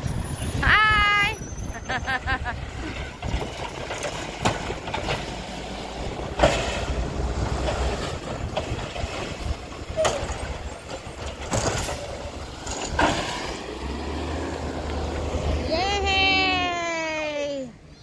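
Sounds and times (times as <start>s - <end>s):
garbage truck engine hum: 1.4s - 16.6s.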